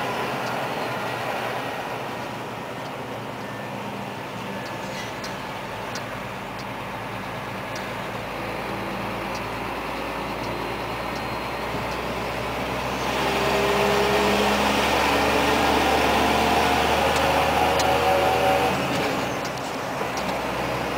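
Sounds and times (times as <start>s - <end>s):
road noise: 0.0s - 20.9s
truck diesel engine: 0.0s - 20.9s.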